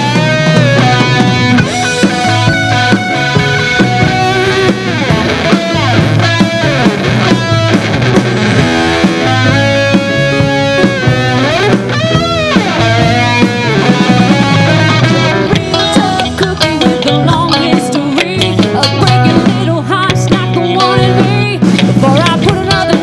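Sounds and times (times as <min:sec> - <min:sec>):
electric guitar bending notes: 0:00.0 - 0:23.0
live rock band playing: 0:00.0 - 0:23.0.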